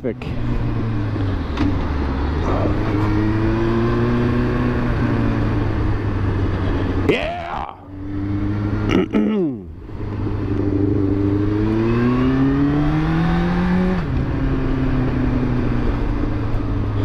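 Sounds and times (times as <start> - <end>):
motorcycle engine accelerating: 0.2 - 17.0.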